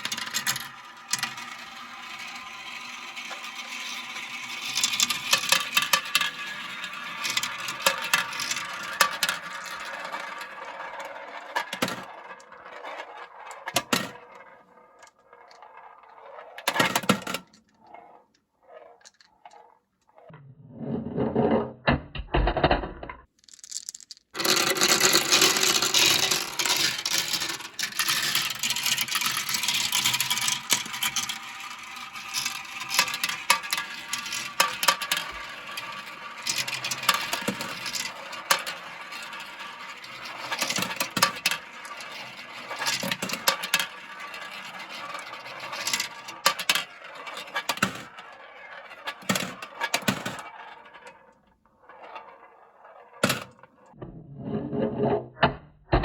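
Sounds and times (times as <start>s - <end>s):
marbles rattling down a track: 0.0s - 17.3s, 23.3s - 51.1s.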